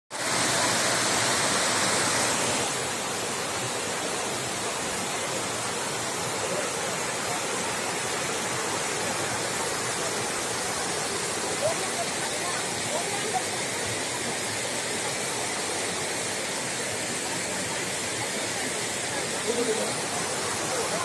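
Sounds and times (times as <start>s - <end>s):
river rapids rushing: 0.2s - 21.0s.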